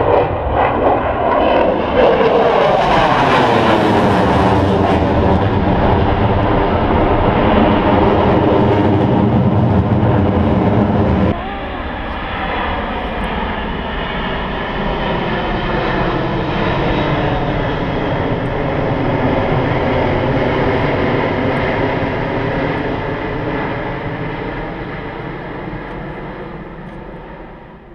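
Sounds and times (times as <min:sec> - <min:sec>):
jet airliner flying overhead: 0:00.0 - 0:27.9.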